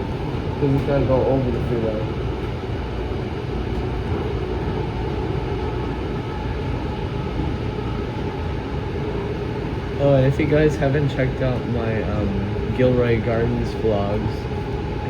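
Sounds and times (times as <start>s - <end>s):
faint hum: 0.0s - 15.0s
train running low rumble: 0.0s - 15.0s.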